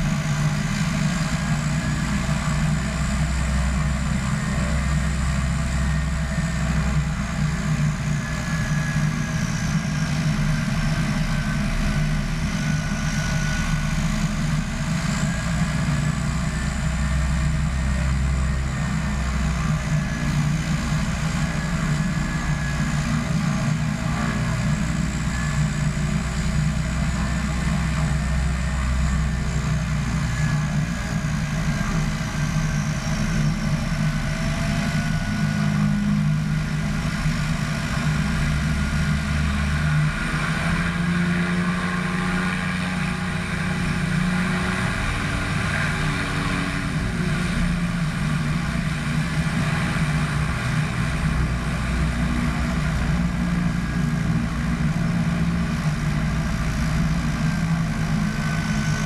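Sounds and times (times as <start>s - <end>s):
high turbine whine: 0.0s - 59.0s
turboprop engines droning: 0.0s - 59.0s.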